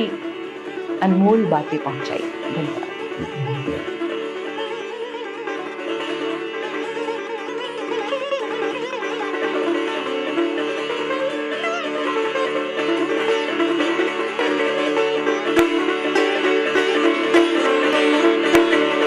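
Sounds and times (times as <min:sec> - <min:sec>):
sitar melody: 0:00.0 - 0:19.0.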